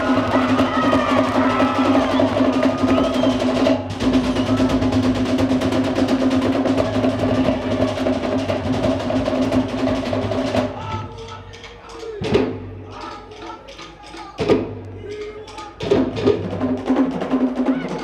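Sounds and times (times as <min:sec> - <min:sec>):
tall skin drums: 0:00.0 - 0:18.0
wooden slit drums struck rapidly: 0:00.0 - 0:18.0.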